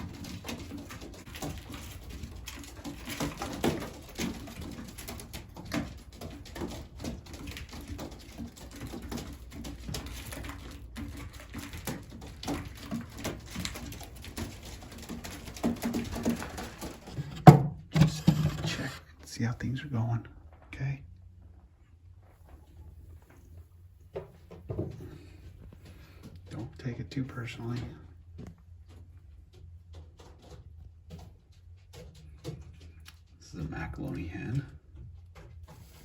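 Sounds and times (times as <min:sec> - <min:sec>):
birds pecking at feed: 0:00.0 - 0:36.0.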